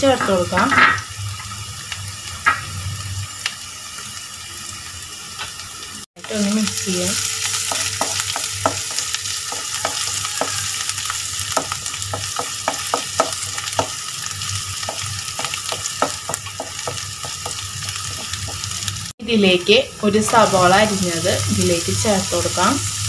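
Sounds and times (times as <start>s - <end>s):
ginger and garlic sizzling in oil: 0.0s - 23.0s.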